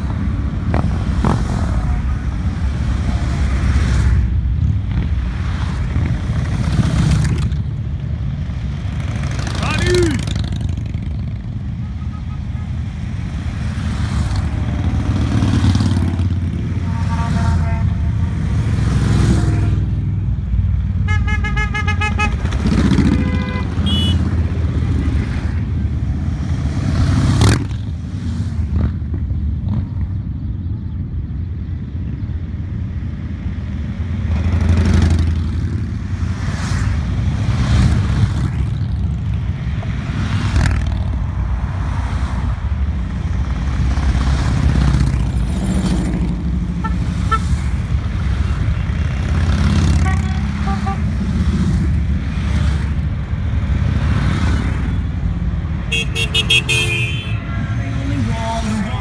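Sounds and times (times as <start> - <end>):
motorcycles riding past: 0.0 - 11.8, 12.9 - 20.0, 22.1 - 30.6, 33.3 - 59.0.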